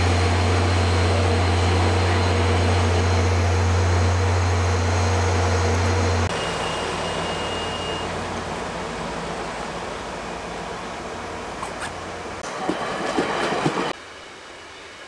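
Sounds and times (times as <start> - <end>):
passenger train rolling past: 0.0 - 14.8.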